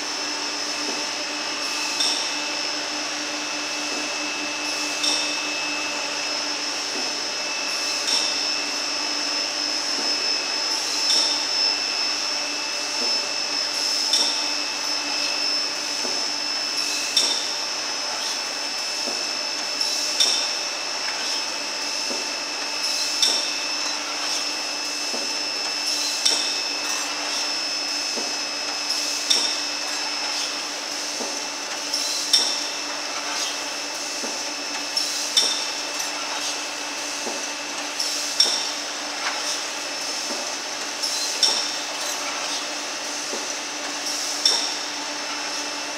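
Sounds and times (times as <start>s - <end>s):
machine high whine: 0.0s - 45.9s.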